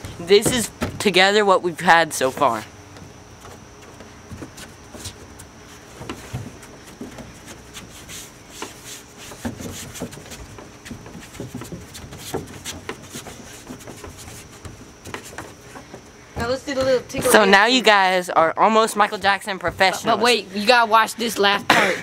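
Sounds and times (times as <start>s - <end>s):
bare feet on wooden deck: 0.0s - 22.0s.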